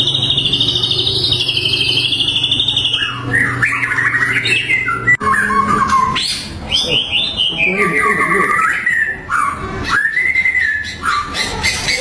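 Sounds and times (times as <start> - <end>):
bird singing trills and warbles: 0.0 - 12.0.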